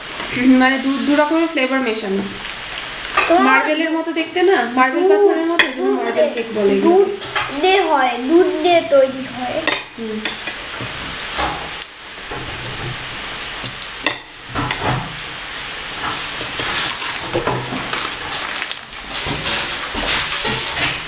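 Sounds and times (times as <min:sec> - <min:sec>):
continuous noisy hiss: 0:00.0 - 0:21.0.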